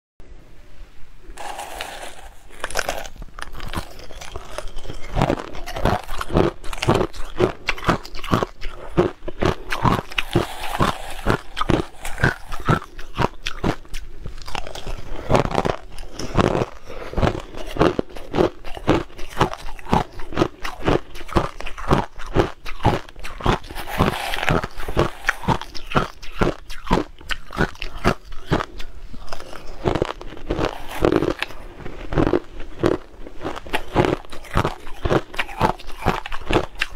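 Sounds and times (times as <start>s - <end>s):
crushed ice crunching while chewed: 1.4s - 36.9s.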